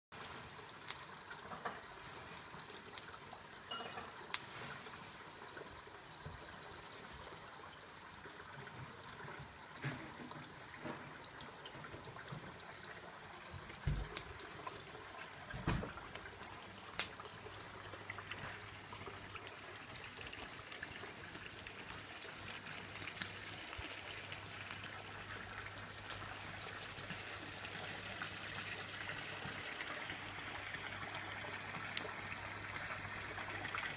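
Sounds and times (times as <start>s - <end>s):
water trickling into pond: 0.1s - 33.9s.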